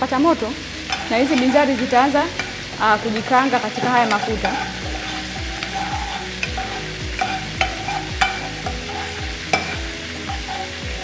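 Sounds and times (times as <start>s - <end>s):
oil sizzling lightly: 0.0s - 11.0s
spoon stirring seeds in oil: 0.1s - 11.0s
spoon tapping against pan: 0.8s - 11.0s.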